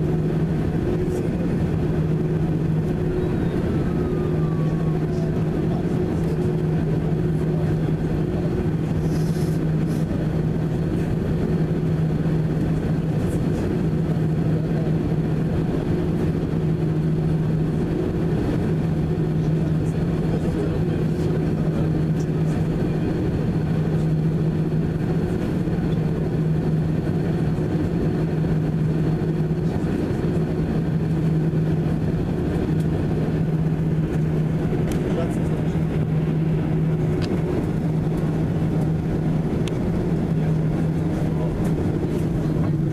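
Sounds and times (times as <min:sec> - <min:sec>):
jet engines idling drone: 0:00.0 - 0:42.9.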